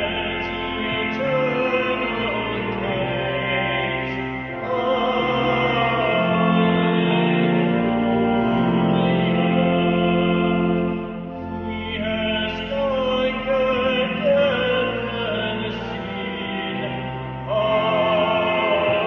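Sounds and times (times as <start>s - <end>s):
organ sustained chords: 0.0s - 19.0s.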